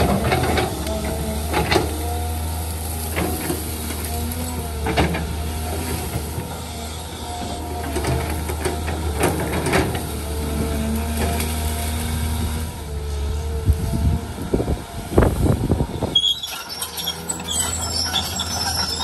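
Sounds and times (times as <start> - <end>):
excavator diesel drone: 0.0 - 19.0.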